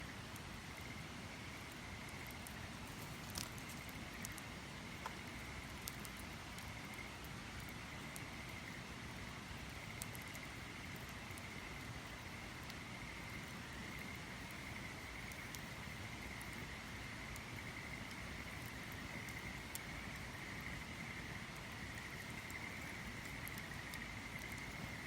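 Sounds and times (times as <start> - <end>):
campfire crackling and popping: 0.1 - 25.0.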